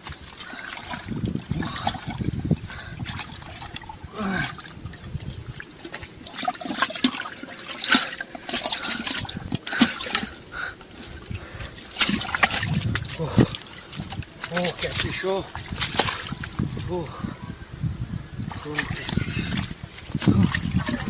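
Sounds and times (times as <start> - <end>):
muddy water splashing: 0.0 - 17.2, 18.4 - 21.0.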